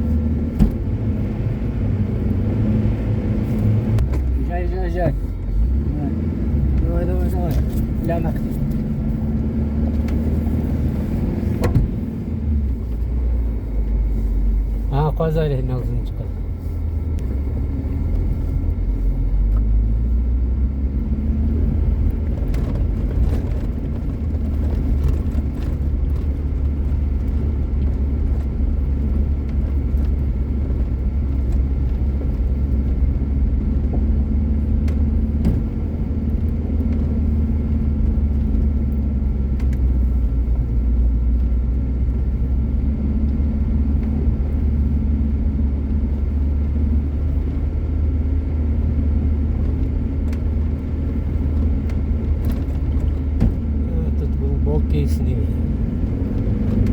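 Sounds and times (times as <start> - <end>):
vehicle engine rumbling: 0.0 - 56.9.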